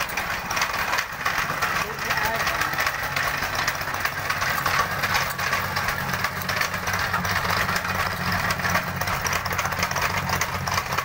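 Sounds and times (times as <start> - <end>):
tamping rammer hammering ground: 0.0 - 11.0.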